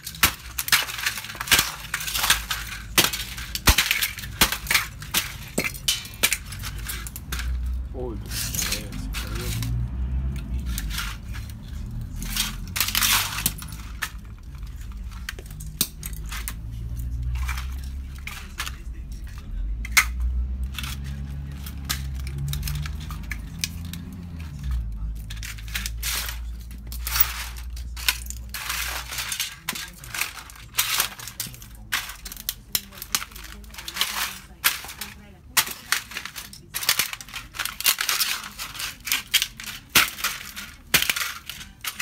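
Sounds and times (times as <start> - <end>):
plastic cases cracking under boots: 0.0 - 42.0
plastic snapping and scraping on tiles: 0.0 - 42.0.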